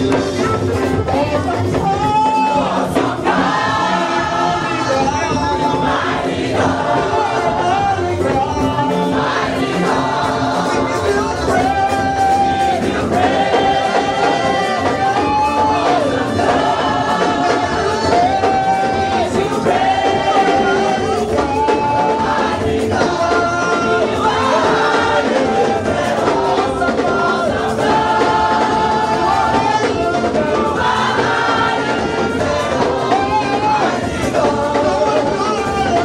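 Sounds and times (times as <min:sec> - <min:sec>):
congregation singing: 0:00.0 - 0:36.0
live band playing: 0:00.0 - 0:36.0
trumpet: 0:00.0 - 0:36.0.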